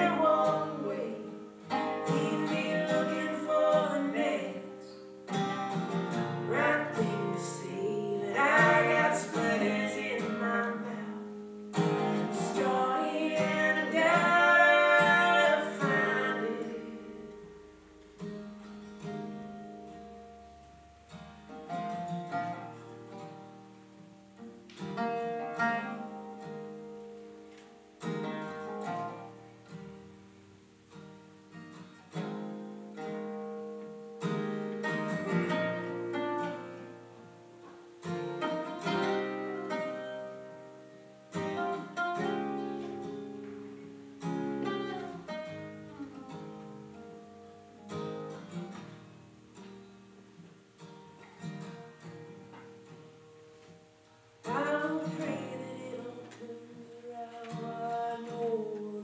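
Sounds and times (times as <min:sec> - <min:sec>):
acoustic guitars playing: 0:00.0 - 0:59.0.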